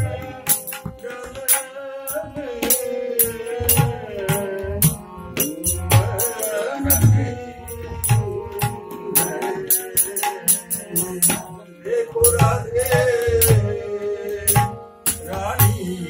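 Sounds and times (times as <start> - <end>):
man singing long notes: 0.0 - 16.0.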